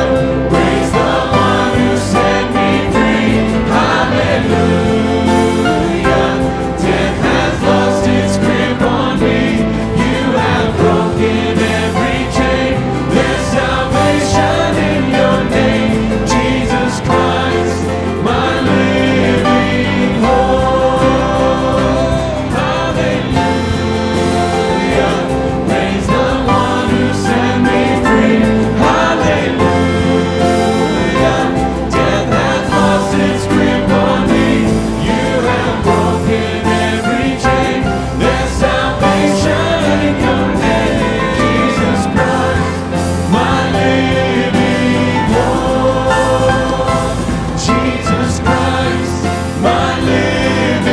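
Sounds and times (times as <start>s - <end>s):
band playing worship music: 0.0s - 50.9s
congregation singing: 0.0s - 50.9s.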